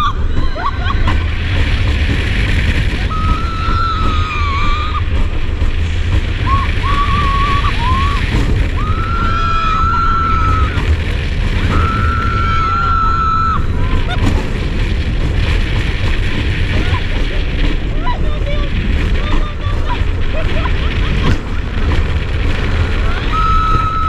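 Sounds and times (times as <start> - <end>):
riders screaming: 0.0 - 1.8, 2.4 - 5.5, 6.2 - 24.0
wind rumbling on microphone: 0.0 - 24.0.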